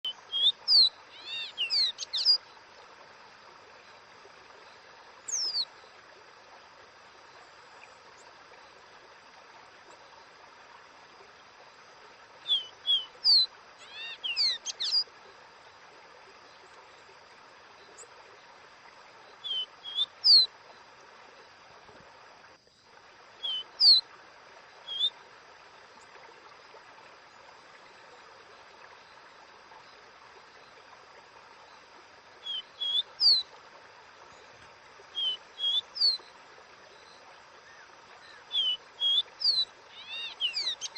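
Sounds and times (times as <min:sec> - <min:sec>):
faint hiss: 0:00.0 - 0:40.9.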